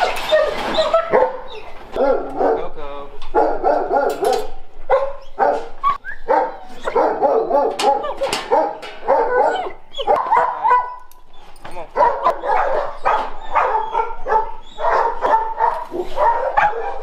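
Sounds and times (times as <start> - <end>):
dogs barking and yipping: 0.0 - 17.0.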